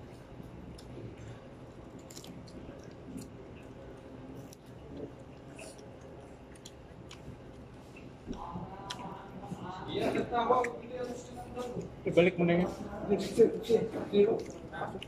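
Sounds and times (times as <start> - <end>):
man chewing with wet clicks: 0.0 - 12.4, 13.2 - 15.0.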